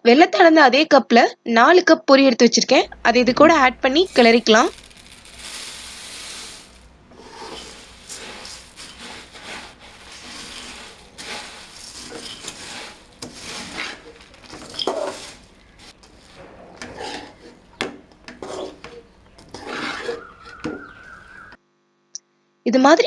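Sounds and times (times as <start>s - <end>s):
puffed rice rustling: 2.8s - 21.6s
spoon scraping a pan: 2.9s - 21.6s.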